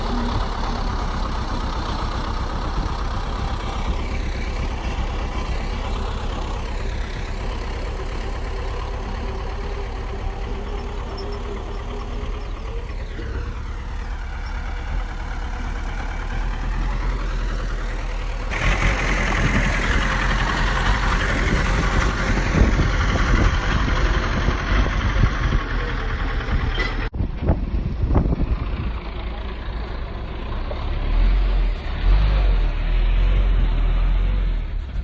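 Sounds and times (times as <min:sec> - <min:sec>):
engine knocks: 0:00.0 - 0:32.7
bulldozer diesel engine running: 0:00.0 - 0:35.0.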